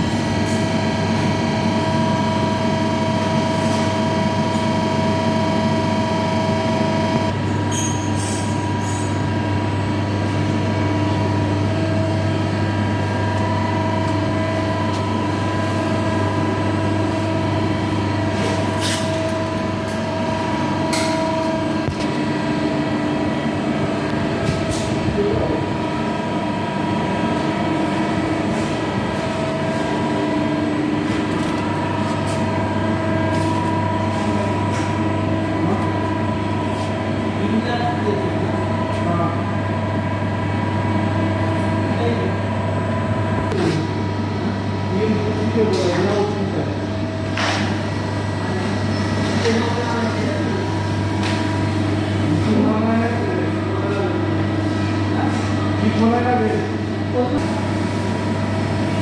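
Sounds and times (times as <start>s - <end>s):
lathe humming with whining tones: 0.0s - 59.0s.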